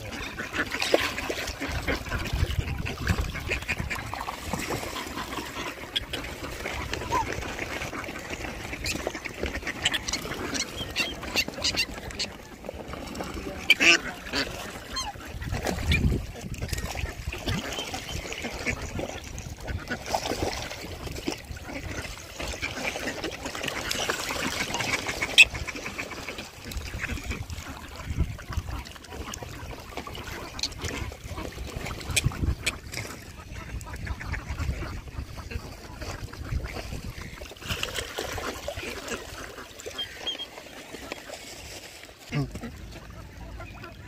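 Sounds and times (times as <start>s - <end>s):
ducks quacking: 0.0s - 44.0s
water splashing: 0.0s - 44.0s.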